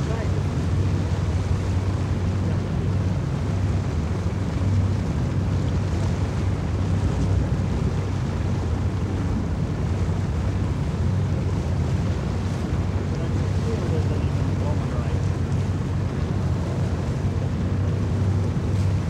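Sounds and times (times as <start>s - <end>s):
motorboat engine drone: 0.0s - 19.0s
wind buffeting microphone: 0.0s - 19.0s.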